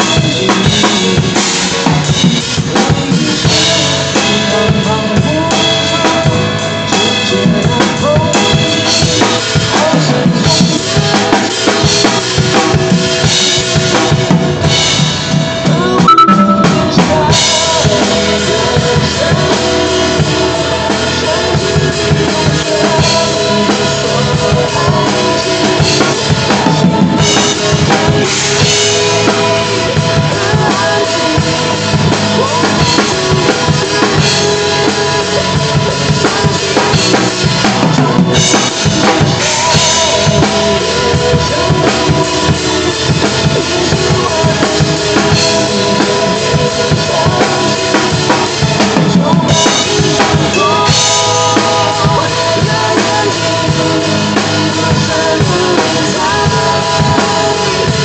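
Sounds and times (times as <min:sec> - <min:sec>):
acoustic drum kit playing: 0:00.0 - 0:58.0
pop ballad backing track: 0:00.0 - 0:58.0.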